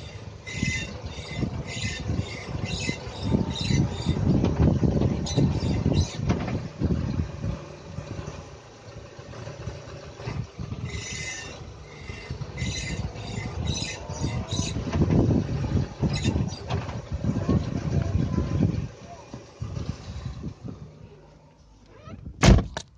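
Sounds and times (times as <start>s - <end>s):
propeller shaft squeaking: 0.0s - 22.6s
low car running rumble: 0.0s - 22.9s.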